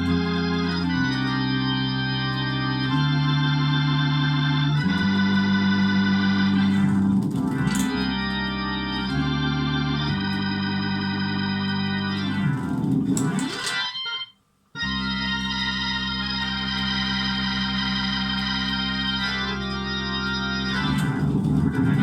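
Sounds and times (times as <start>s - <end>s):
drawbar organ chords: 0.0s - 22.0s.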